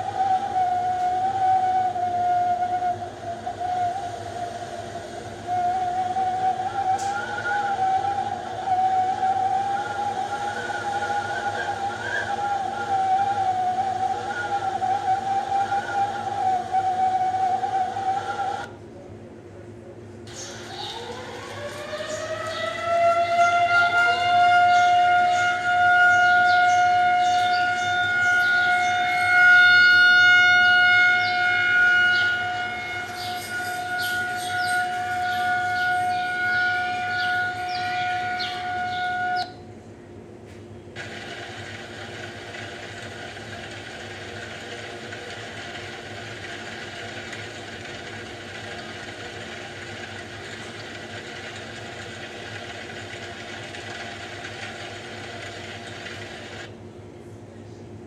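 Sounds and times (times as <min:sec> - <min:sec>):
siren wailing: 0:00.0 - 0:18.7, 0:20.3 - 0:39.6, 0:41.0 - 0:56.7
low hum with hiss: 0:00.0 - 0:58.0.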